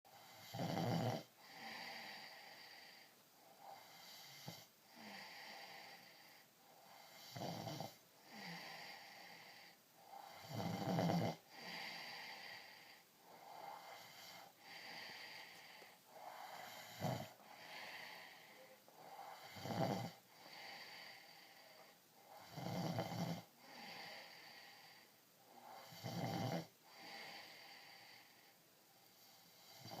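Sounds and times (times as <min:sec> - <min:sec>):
child snoring: 0:00.1 - 0:28.4, 0:29.1 - 0:30.0
soft breaths: 0:00.1 - 0:30.0.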